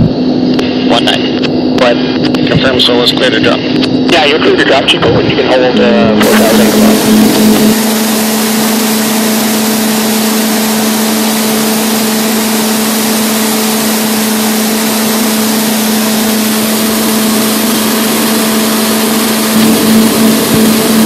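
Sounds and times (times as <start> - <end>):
constant low hum: 0.0 - 21.0
jet cockpit airflow rush: 0.0 - 21.0.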